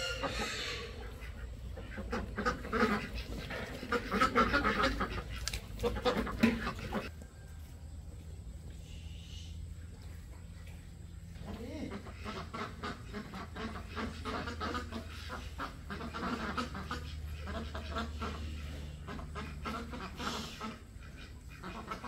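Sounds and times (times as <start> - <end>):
farm fowl calling: 0.0 - 7.9, 11.4 - 22.0
steady low hum: 0.0 - 22.0.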